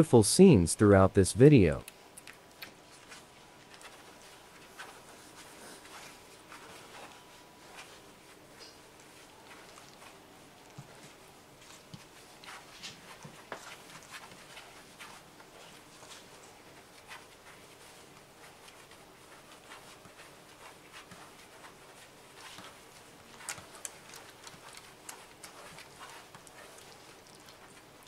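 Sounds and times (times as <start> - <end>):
puppies clicking and rustling: 1.8 - 28.0.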